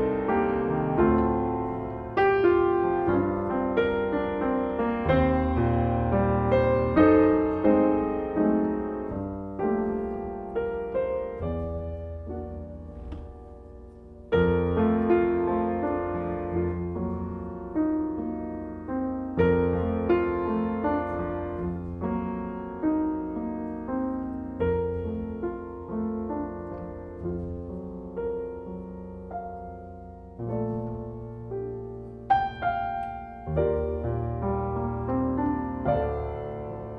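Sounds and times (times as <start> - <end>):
solo piano chords: 0.0 - 36.9.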